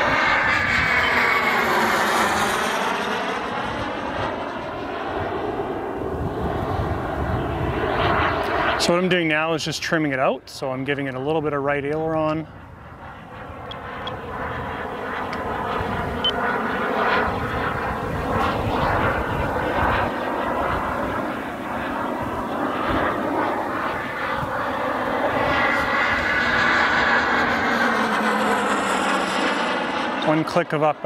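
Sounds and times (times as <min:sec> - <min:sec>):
model jet turbine engine: 0:00.0 - 0:31.0.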